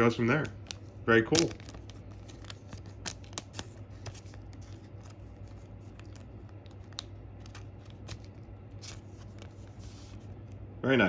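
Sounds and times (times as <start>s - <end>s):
plastic sleeve crinkling: 0.1s - 10.6s.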